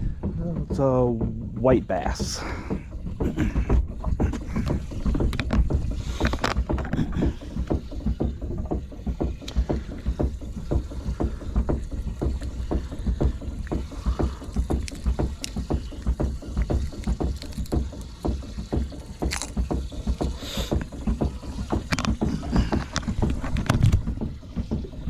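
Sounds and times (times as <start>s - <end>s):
waves slapping boat hull: 0.0s - 25.0s
wind rumbling on microphone: 0.0s - 25.0s.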